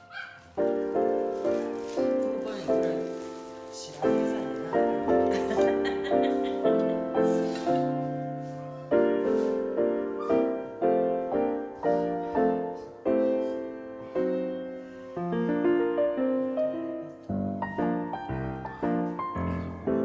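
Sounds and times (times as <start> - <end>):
slow solo piano melody: 0.0 - 20.0.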